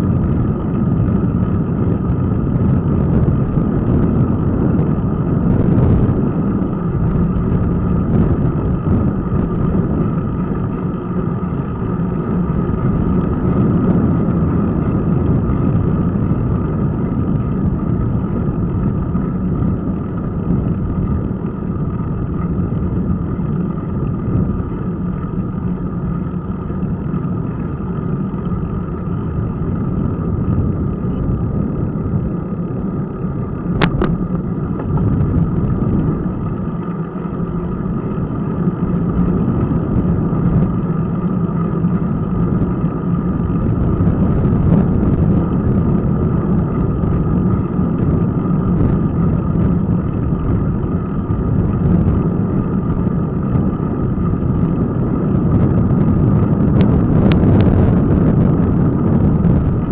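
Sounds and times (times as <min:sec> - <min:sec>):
tyre noise on asphalt: 0:00.0 - 0:59.9
wind buffeting microphone: 0:00.0 - 0:59.9.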